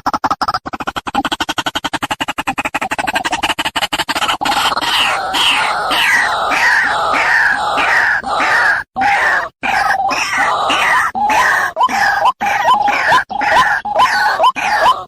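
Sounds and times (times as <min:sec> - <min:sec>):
bird calling harsh repeated notes: 0:02.7 - 0:15.0.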